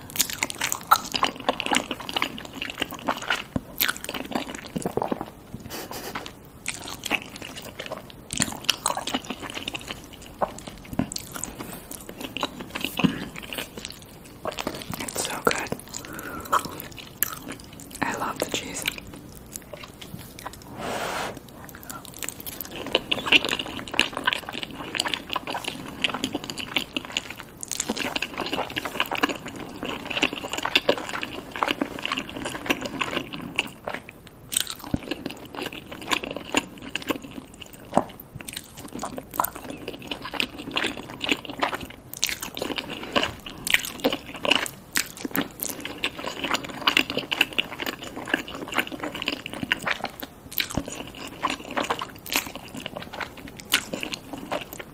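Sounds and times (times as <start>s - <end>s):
person chewing wetly: 0.0s - 20.7s, 21.4s - 54.9s.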